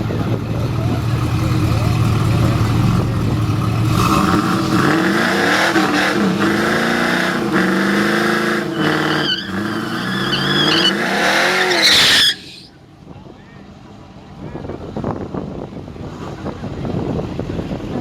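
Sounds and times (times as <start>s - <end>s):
drag racing engines at full throttle: 0.0s - 18.0s.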